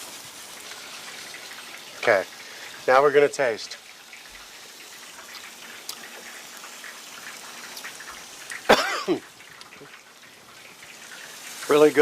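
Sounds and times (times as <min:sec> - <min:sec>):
gravy simmering and popping: 0:00.0 - 0:12.0.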